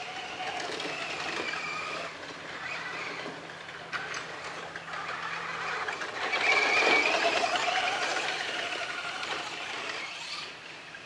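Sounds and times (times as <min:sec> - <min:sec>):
toy truck motor whining: 0:00.0 - 0:11.0.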